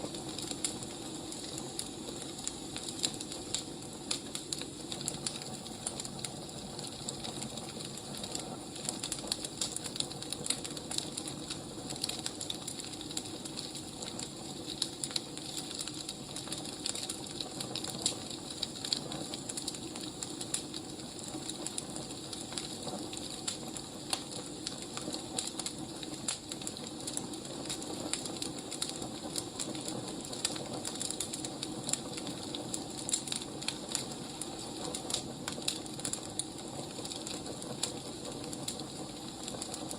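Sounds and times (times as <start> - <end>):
firewood burning and crackling: 0.0 - 39.9.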